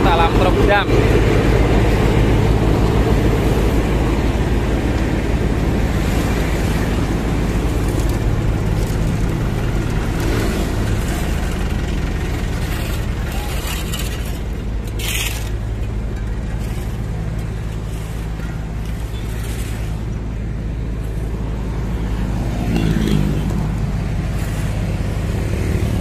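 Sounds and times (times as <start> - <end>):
diesel engine running: 0.0 - 26.0
road traffic noise: 0.0 - 26.0.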